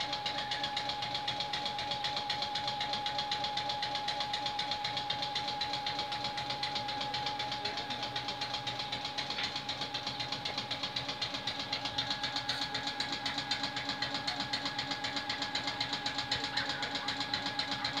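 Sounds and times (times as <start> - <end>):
air compressor chugging: 0.0 - 18.0
steady high whine: 0.0 - 18.0.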